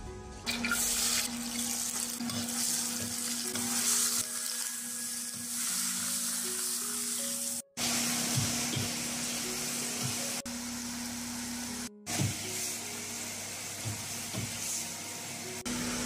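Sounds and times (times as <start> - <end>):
hot oil sizzling in a wok: 0.5 - 15.4.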